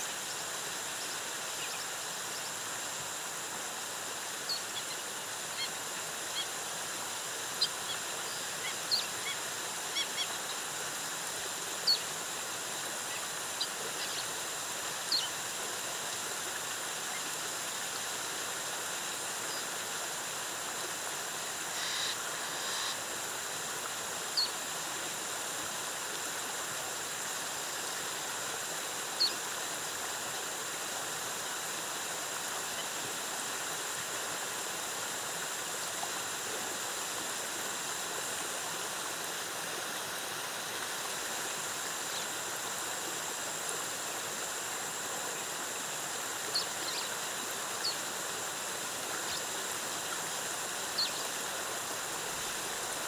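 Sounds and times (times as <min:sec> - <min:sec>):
waterfall and stream rushing: 0:00.0 - 0:53.0.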